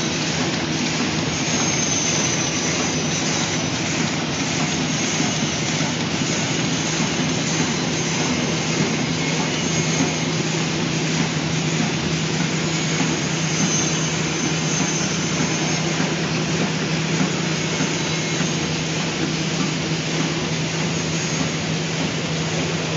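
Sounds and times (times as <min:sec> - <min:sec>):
packing machine whirring: 0:00.0 - 0:22.9.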